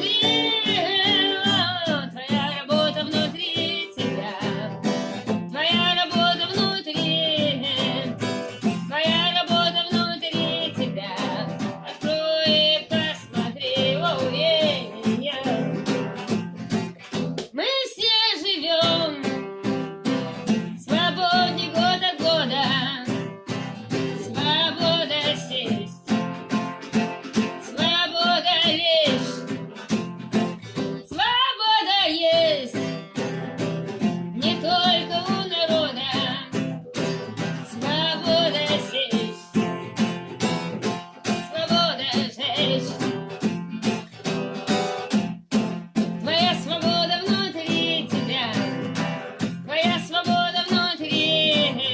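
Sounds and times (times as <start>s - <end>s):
person singing with vibrato: 0.0s - 16.3s, 17.5s - 26.2s, 27.3s - 29.8s, 30.6s - 40.1s, 41.2s - 43.4s, 46.2s - 51.9s
guitar strumming: 0.0s - 17.6s, 18.8s - 51.9s.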